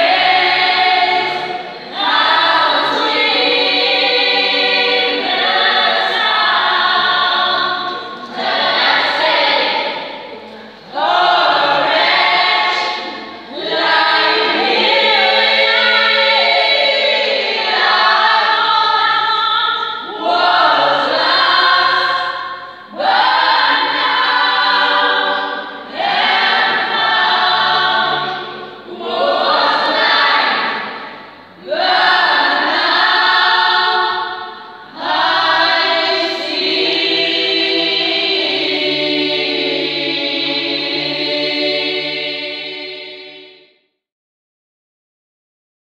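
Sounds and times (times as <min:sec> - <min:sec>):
gospel choir singing: 0:00.0 - 0:43.8.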